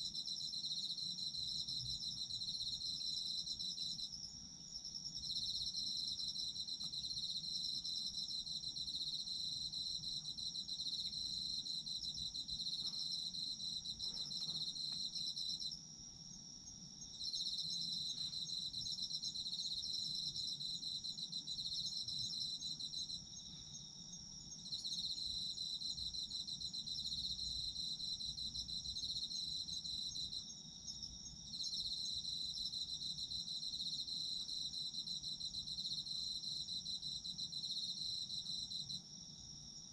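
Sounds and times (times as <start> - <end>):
pulsed cricket chirp: 0.0 - 39.9
crickets trilling: 0.1 - 39.9.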